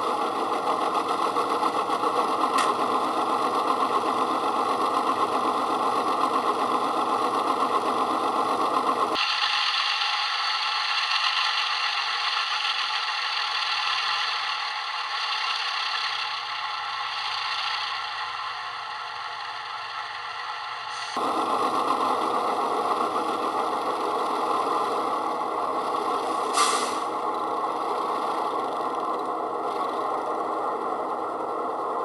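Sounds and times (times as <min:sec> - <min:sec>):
model diesel engine through speaker: 0:00.0 - 0:32.0.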